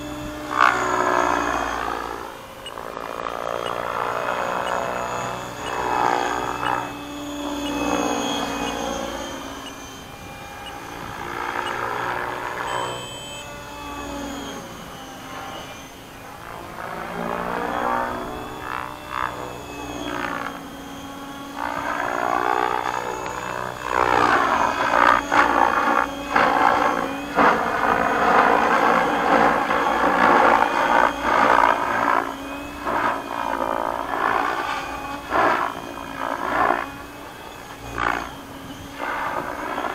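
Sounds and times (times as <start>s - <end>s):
electric motor whine: 0.0s - 39.9s
helicopter rotor blade noise: 0.0s - 39.9s.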